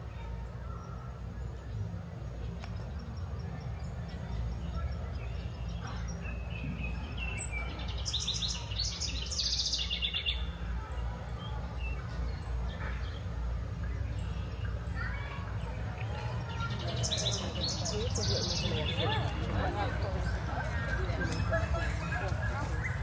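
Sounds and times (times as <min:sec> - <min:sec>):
songbird singing: 0:00.2 - 0:23.0.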